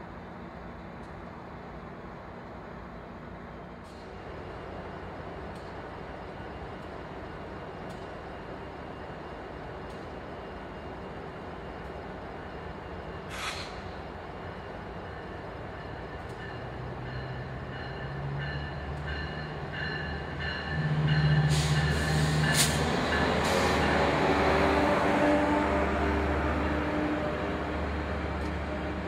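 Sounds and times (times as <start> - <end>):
diesel train engine rumble: 0.0 - 29.0.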